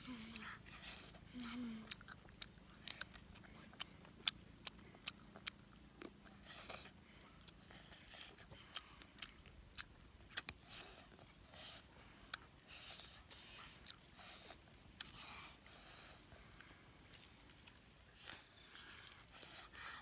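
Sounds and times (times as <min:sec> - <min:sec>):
person chewing and biting: 0:01.8 - 0:19.9.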